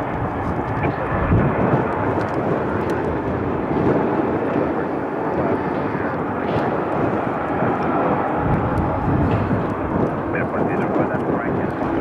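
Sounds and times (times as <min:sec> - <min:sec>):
jet engines at taxi power: 0:00.0 - 0:12.0.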